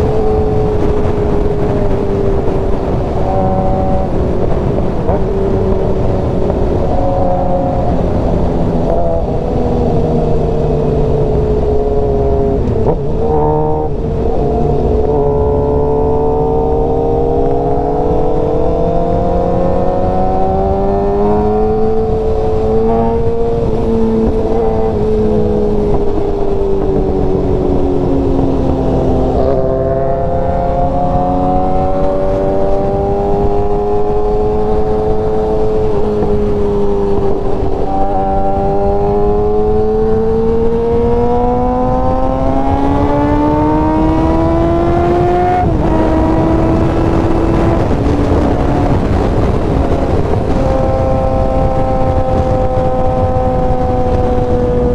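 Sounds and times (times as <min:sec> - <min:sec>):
heavy wind rush: 0:00.0 - 0:54.9
motorcycle engine at speed: 0:00.0 - 0:54.9.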